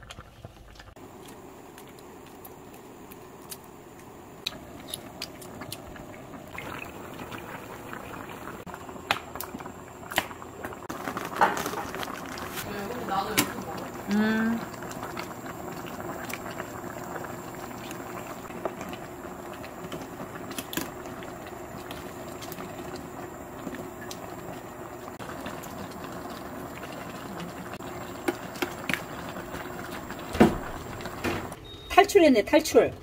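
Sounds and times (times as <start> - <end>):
sauce simmering and bubbling: 0.0 - 31.8.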